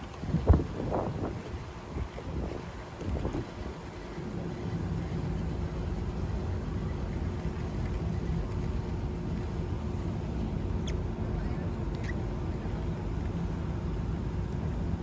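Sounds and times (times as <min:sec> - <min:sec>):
faint steady hum: 0:00.0 - 0:15.0
low vehicle rumble: 0:00.0 - 0:15.0.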